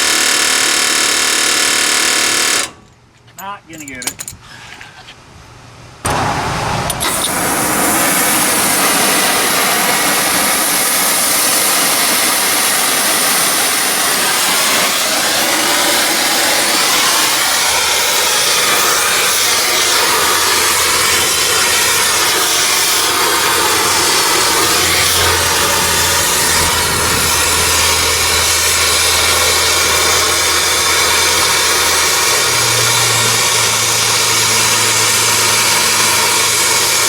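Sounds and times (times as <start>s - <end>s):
shop tool machine hissing: 6.1s - 37.0s.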